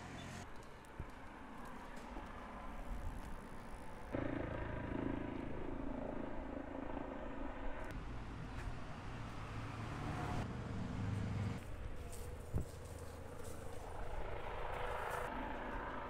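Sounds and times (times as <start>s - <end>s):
motor vehicle running: 0.0s - 16.0s
street ambience: 0.0s - 16.0s.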